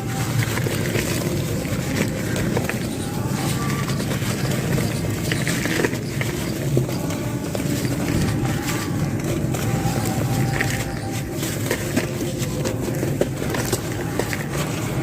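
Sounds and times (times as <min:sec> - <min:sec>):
cement chunks crunching: 0:00.0 - 0:15.0.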